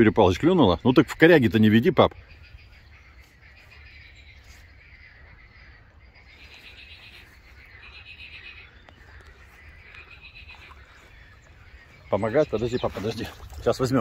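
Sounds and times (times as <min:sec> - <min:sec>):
frogs croaking: 0:00.0 - 0:14.0.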